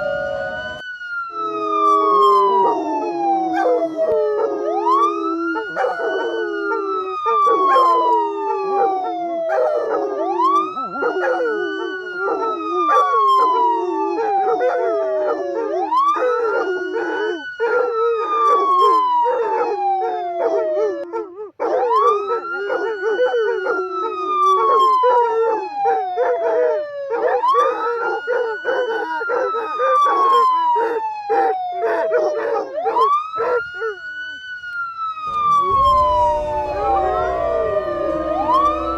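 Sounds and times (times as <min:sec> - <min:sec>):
dogs howling: 0:00.0 - 0:34.4, 0:35.2 - 0:38.9
wailing emergency siren: 0:00.0 - 0:38.9
dogs yelping and barking: 0:02.0 - 0:34.4.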